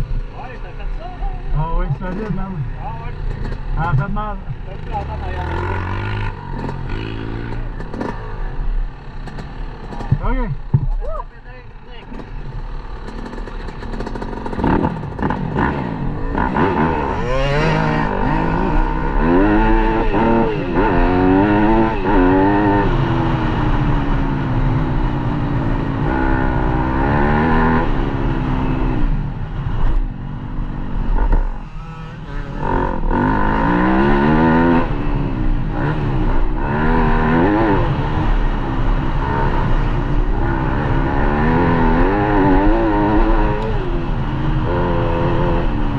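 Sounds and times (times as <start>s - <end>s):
dirt bike engine revving: 1.4s - 10.7s, 12.0s - 30.0s, 30.8s - 45.9s.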